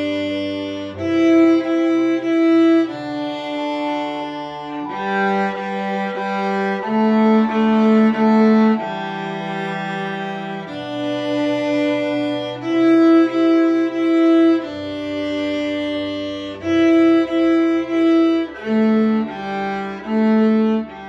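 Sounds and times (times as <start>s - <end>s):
viola bowed melody: 0.0s - 21.0s.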